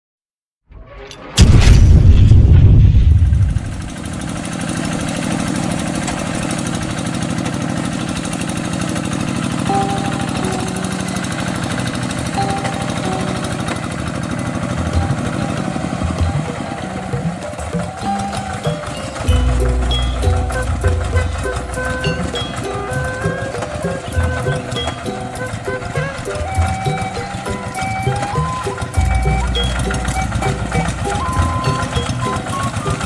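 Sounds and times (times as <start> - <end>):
tractor engine running: 1.3 - 33.0.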